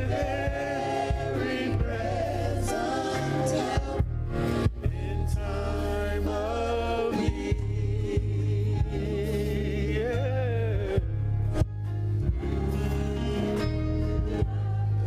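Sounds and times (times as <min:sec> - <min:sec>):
drums: 0:00.0 - 0:05.6, 0:07.1 - 0:09.5, 0:10.9 - 0:15.0
choir singing: 0:00.0 - 0:11.0, 0:12.2 - 0:15.0
bass: 0:00.0 - 0:15.0.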